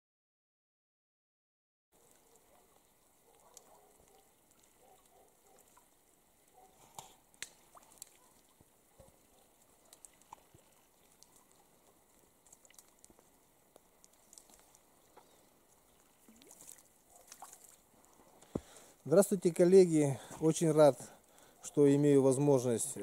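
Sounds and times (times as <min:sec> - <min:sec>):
water dripping from branches: 0:02.0 - 0:23.0.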